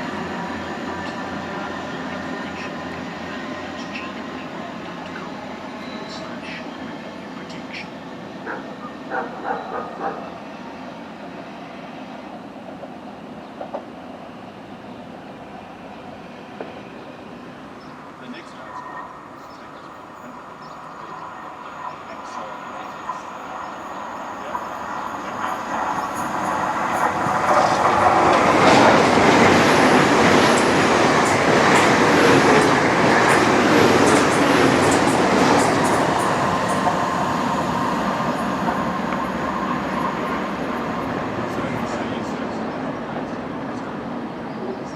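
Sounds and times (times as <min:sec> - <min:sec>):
train running: 0:00.0 - 0:44.9.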